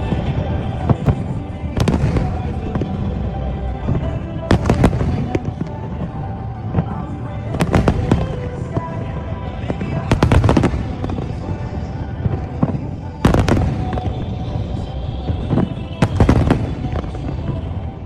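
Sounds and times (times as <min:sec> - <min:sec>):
fireworks sharp bangs: 0:00.0 - 0:18.0.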